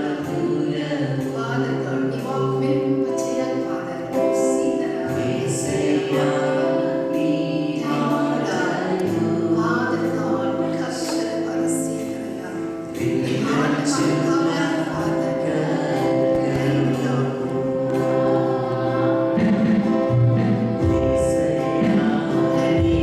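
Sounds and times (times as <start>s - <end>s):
group singing worship song: 0.0s - 23.0s.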